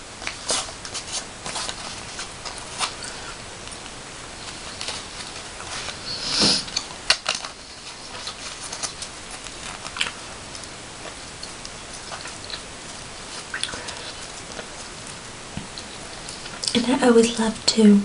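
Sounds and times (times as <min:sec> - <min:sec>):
paper crinkling and rustling: 0:00.1 - 0:16.9.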